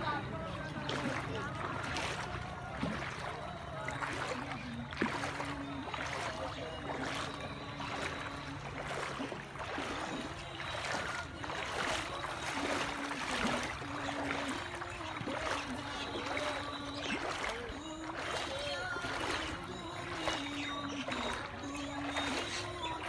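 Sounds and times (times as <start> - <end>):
floodwater swishing and splashing: 0.0 - 23.0.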